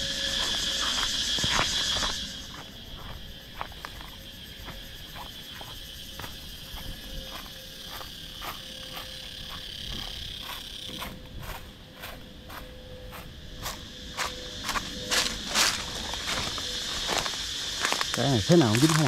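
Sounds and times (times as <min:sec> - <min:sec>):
footsteps: 0:00.0 - 0:19.0
insects droning: 0:00.0 - 0:19.0.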